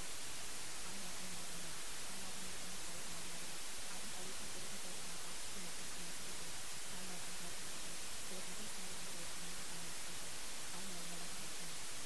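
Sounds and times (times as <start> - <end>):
white noise hiss: 0.0 - 12.0
faint low voice: 0.7 - 12.0.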